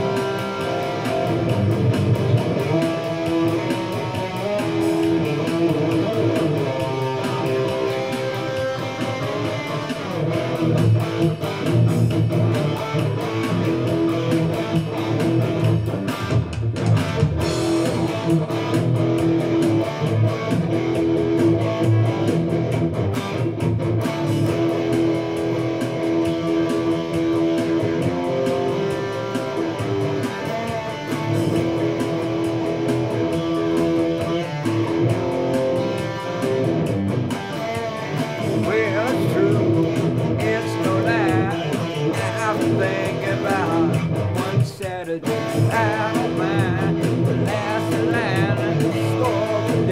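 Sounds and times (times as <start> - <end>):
electric guitar playing: 0.0 - 49.9.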